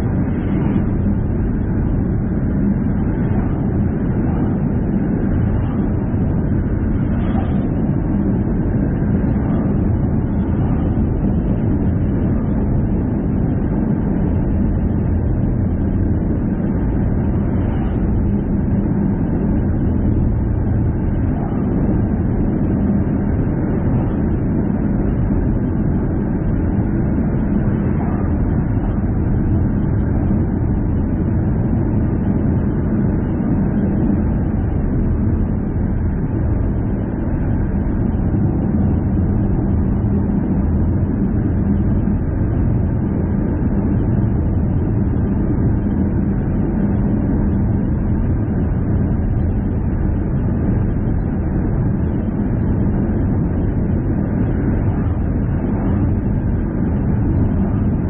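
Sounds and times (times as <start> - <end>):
low even hum: 0.0 - 58.0.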